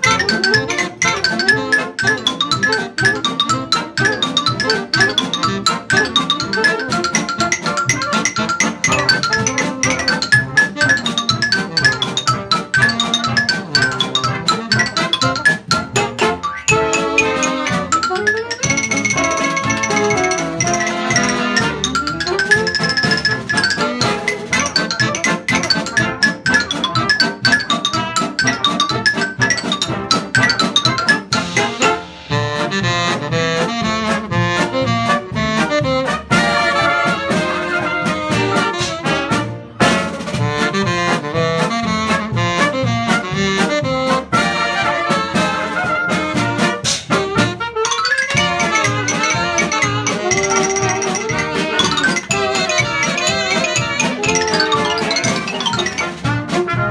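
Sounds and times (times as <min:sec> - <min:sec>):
cornets trombone and saxophones: 0:00.0 - 0:56.9
hot dance-band jazz: 0:00.0 - 0:56.9.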